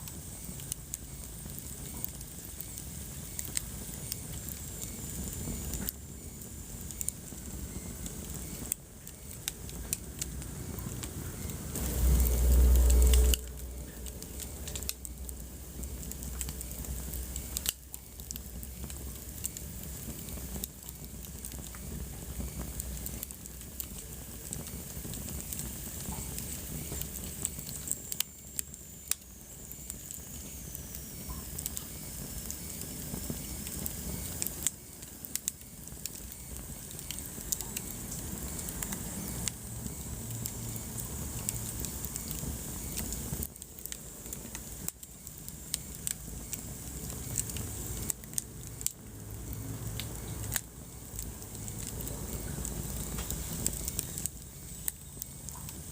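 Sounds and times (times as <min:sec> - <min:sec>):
soft steady hiss: 0:00.0 - 0:55.9
wood fire crackling and popping: 0:00.0 - 0:55.9.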